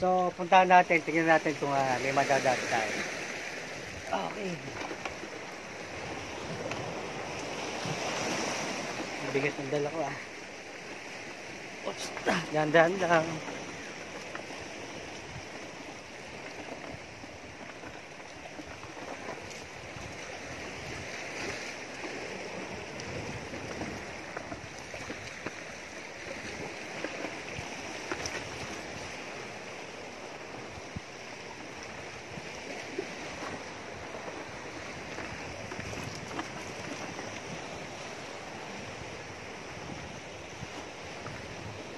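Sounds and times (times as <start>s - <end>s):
sea waves washing among rocks: 0.0s - 41.9s.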